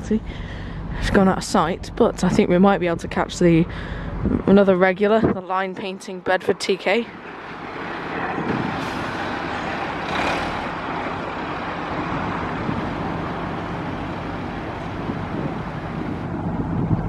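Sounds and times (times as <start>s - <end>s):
lorry engine running: 0.0s - 17.0s
road noise: 0.0s - 17.0s.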